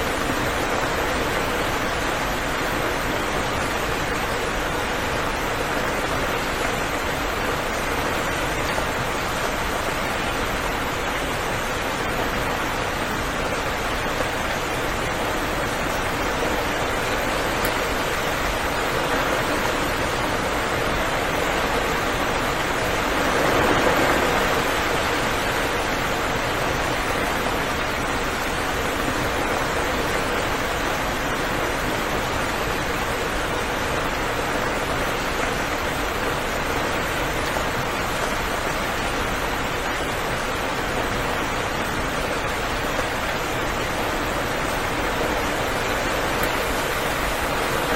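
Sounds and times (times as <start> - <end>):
steady rain hissing: 0.0 - 47.9.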